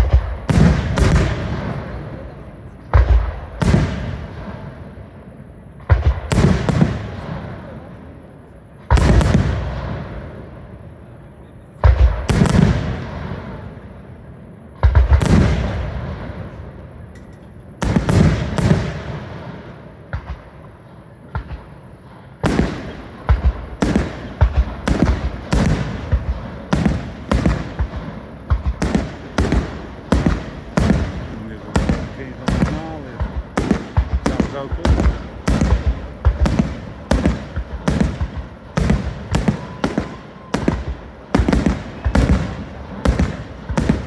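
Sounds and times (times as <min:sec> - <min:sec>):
fireworks bangs: 0:00.0 - 0:11.0, 0:11.7 - 0:44.0.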